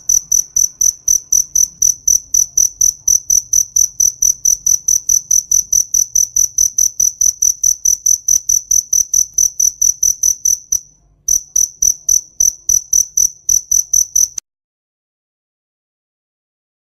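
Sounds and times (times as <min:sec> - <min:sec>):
cricket chirping: 0:00.0 - 0:14.4.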